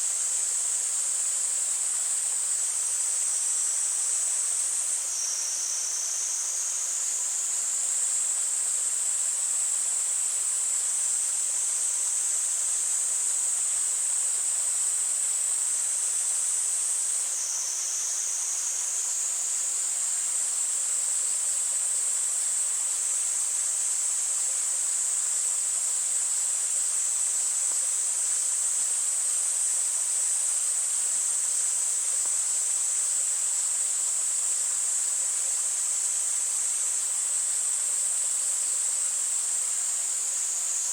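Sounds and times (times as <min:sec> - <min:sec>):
cicadas singing: 0:00.1 - 0:40.9.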